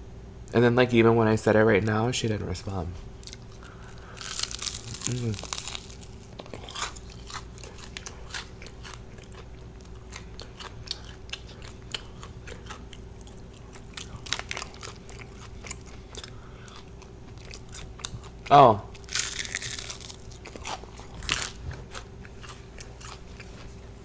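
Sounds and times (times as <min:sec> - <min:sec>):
faint steady hum: 0:00.0 - 0:24.0
crunching and chewing fried chicken: 0:03.2 - 0:23.9.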